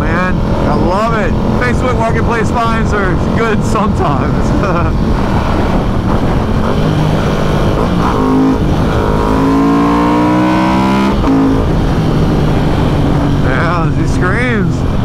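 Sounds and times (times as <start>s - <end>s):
motorcycle engine under full throttle: 0.0s - 15.0s
wind rush: 0.0s - 15.0s.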